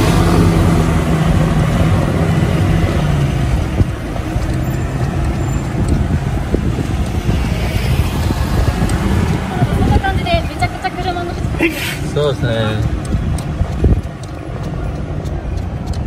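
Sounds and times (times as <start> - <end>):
bus engine hum: 0.0 - 16.0
traffic roar: 0.0 - 16.0.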